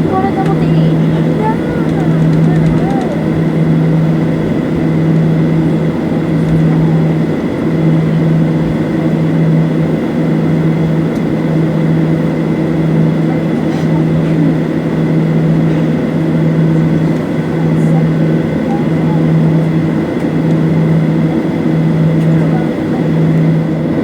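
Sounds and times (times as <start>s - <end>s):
jet engine cabin drone: 0.0s - 24.0s.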